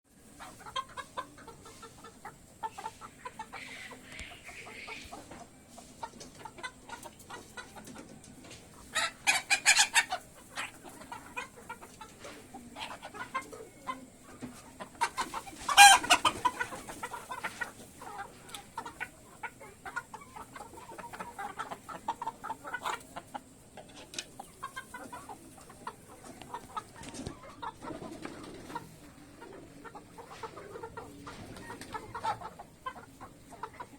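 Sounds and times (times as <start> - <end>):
chicken drawn-out call: 0.1 - 33.9
chickens clucking: 0.1 - 33.9
chickens squawking: 0.1 - 33.9.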